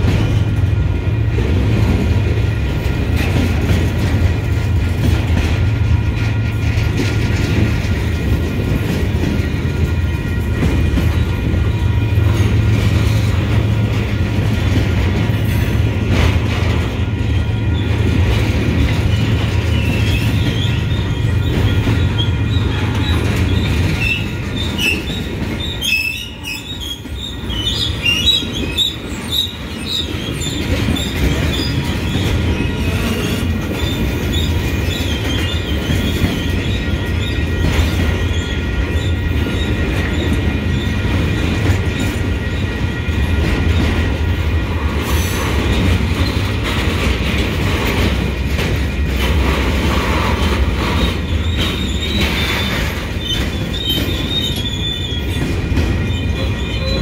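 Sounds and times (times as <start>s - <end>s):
train wheels rumbling on rail: 0.0s - 57.0s
train wheels squealing: 5.2s - 57.0s.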